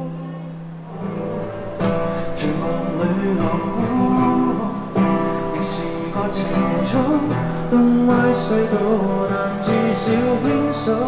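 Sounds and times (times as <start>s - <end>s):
acoustic guitar strumming: 0.0s - 11.0s
held guitar note: 0.0s - 11.0s.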